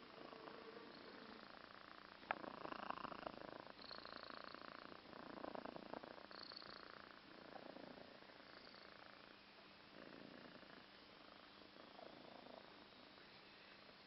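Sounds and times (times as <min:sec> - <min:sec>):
cat snoring: 0:00.0 - 0:14.0.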